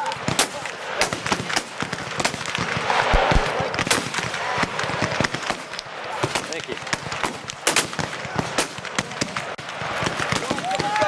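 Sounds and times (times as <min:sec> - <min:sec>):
muskets firing: 0:00.0 - 0:11.0.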